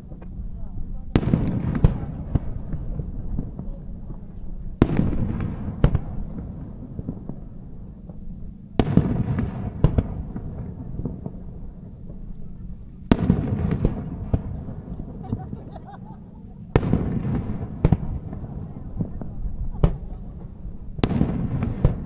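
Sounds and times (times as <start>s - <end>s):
rumbling echo: 0.0s - 22.0s
fireworks bangs: 1.1s - 22.0s.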